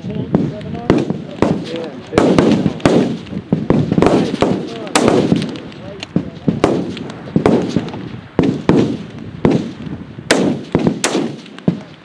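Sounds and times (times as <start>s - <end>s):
rifle shots echoing: 0.3s - 12.0s
distant rifle shots: 0.8s - 12.0s.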